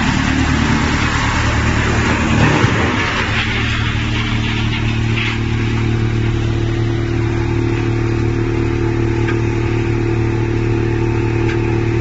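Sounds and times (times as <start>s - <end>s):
hammer mill grinding wood: 0.0s - 12.0s.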